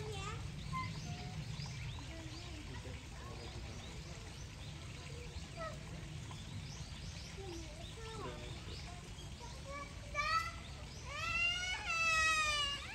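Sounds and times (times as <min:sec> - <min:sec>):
faint distant voices: 0:00.0 - 0:12.9
small birds chirping: 0:00.0 - 0:12.9.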